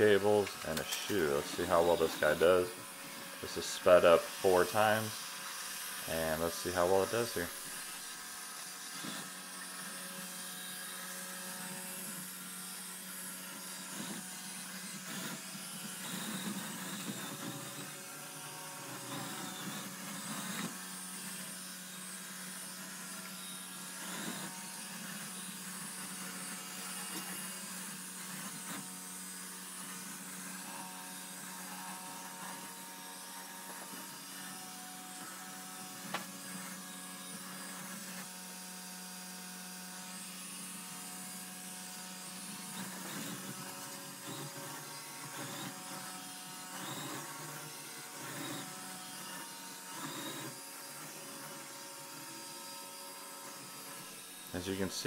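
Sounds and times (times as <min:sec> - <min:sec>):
robot vacuum motor hum: 0:00.0 - 0:55.0.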